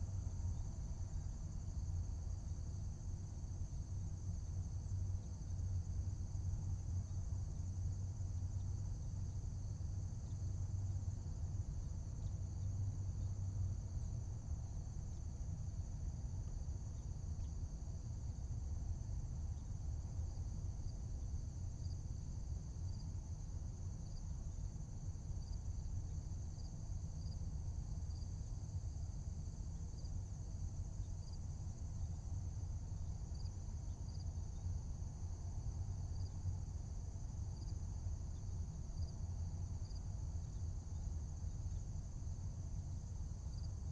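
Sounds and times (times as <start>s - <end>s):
crickets trilling: 8.0s - 43.9s.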